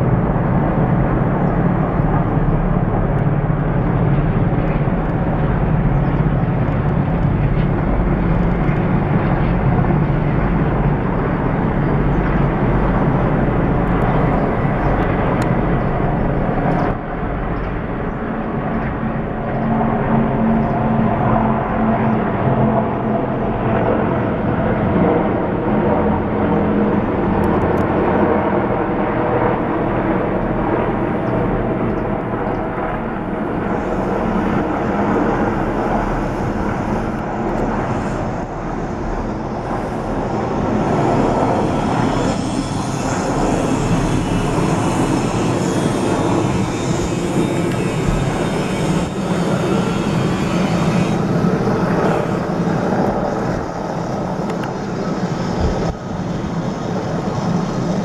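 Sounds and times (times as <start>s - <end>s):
helicopters flying past: 0.0s - 58.0s.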